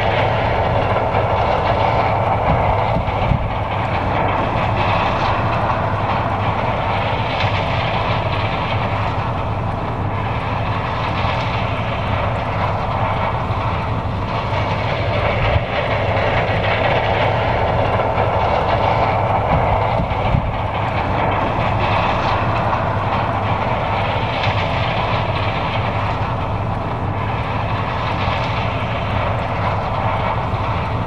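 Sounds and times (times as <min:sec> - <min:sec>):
combine harvester engine running: 0:00.0 - 0:31.0.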